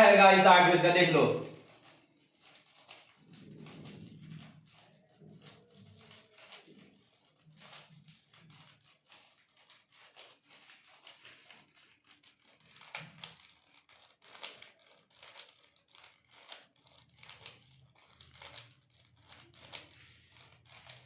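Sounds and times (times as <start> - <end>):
puzzle cube clicking and rattling: 0.0 - 21.0.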